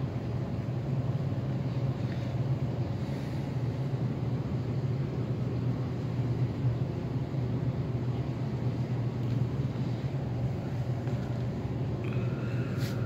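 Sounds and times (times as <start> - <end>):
low mechanical hum: 0.0 - 13.0
rumbling background noise: 0.0 - 13.0.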